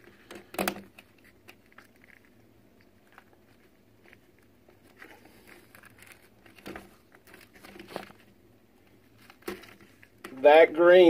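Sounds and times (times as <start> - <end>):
hands rustling and clicking: 0.0 - 10.4.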